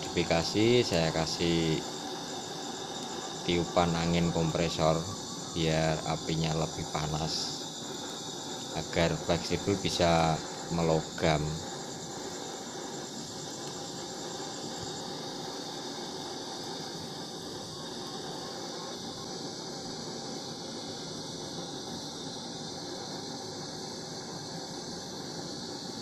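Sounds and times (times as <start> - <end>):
torch flame hissing: 0.0 - 26.0.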